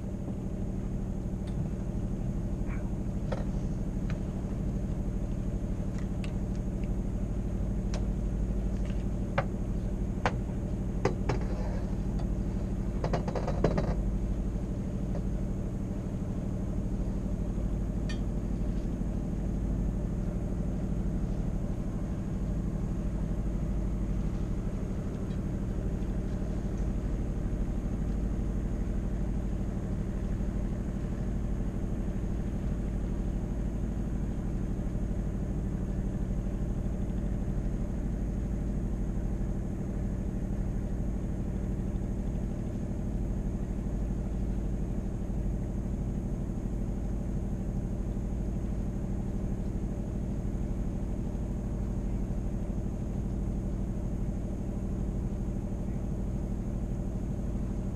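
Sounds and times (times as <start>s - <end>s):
boat engine running at low revs: 0.0s - 57.9s.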